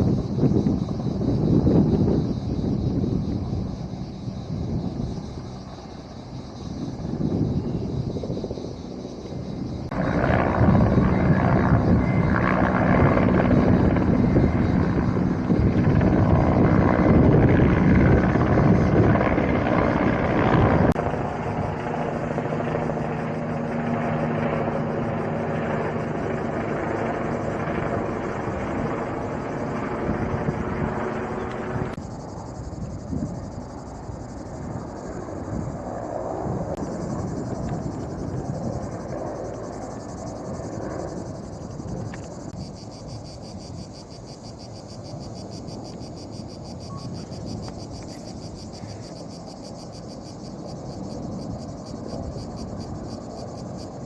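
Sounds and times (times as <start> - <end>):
helicopter flying close: 0.0 - 54.0.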